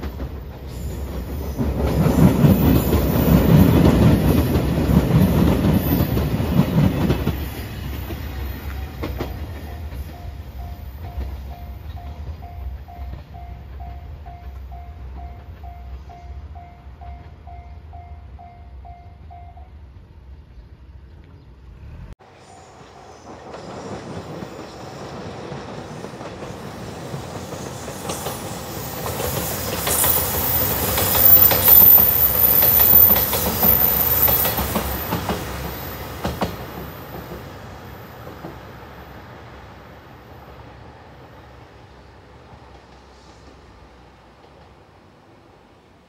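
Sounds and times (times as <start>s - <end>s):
diesel train passing: 0.0s - 46.0s.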